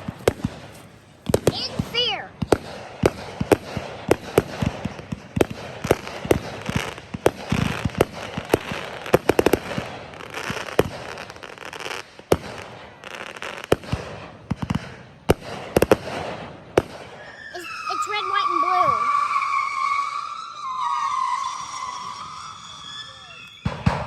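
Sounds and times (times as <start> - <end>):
fireworks banging and popping: 0.0 - 24.0.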